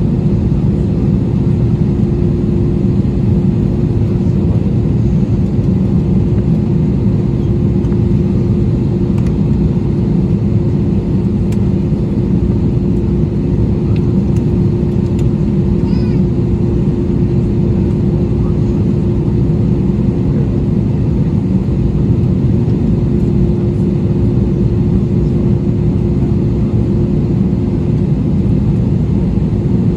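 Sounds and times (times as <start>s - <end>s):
constant hum tone: 0.0s - 29.9s
jet engine and airflow rumble: 0.0s - 29.9s.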